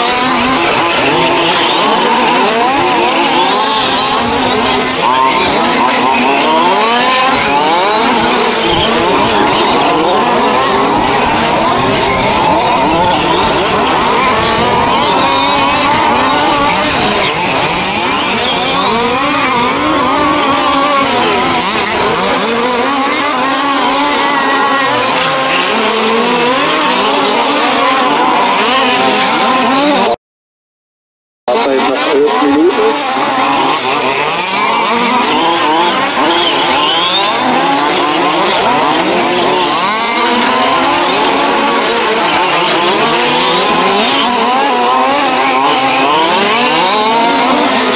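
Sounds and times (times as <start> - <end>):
rc car engines revving: 0.0 - 30.2, 31.5 - 47.9.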